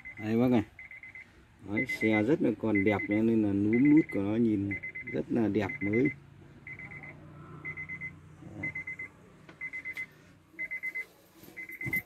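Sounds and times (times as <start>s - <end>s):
car warning chime beeping: 0.0s - 12.0s.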